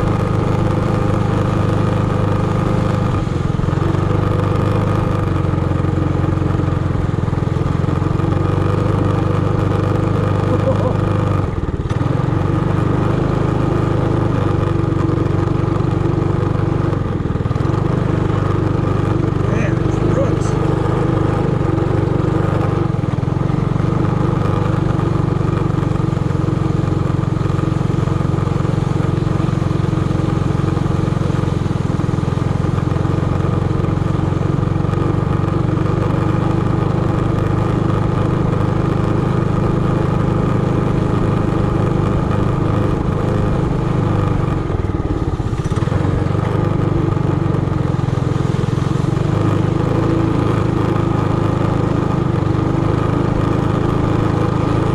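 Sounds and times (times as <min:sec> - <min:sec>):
minibike engine running: 0:00.0 - 0:54.9.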